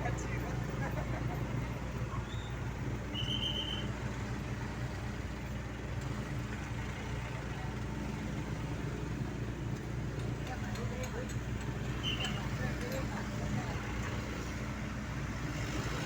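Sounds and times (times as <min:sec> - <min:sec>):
heavy equipment engine running: 0:00.0 - 0:16.0.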